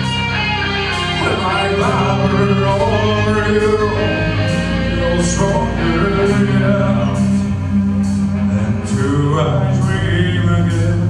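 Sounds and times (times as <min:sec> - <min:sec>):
electric guitars: 0:00.0 - 0:11.0
man singing: 0:00.9 - 0:11.0.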